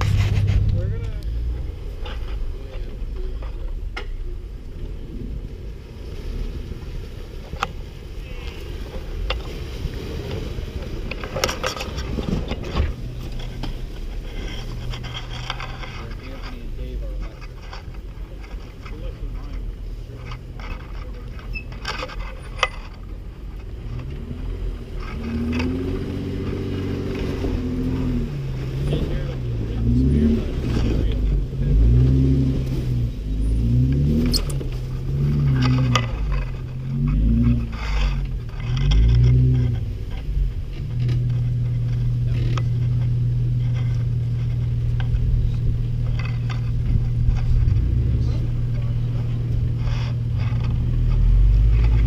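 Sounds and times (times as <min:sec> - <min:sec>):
engine running at low revs: 0:00.0 - 0:52.0.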